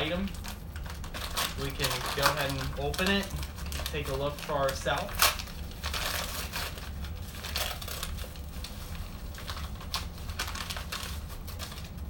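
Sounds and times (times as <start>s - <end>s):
paper crinkling and rustling: 0.0s - 12.0s
steady low hum: 0.0s - 12.0s.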